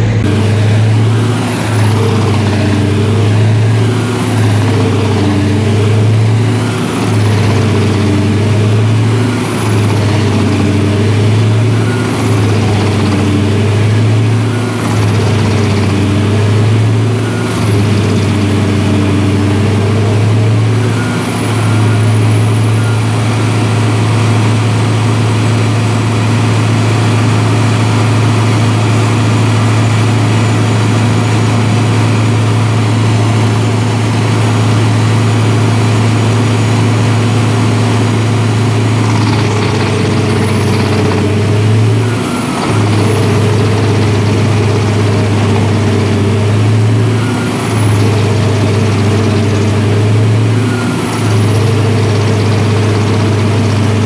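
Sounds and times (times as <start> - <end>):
diesel engine running: 0.0 - 54.0
high whine: 0.0 - 54.0
wood chipper chipping logs: 0.0 - 54.0.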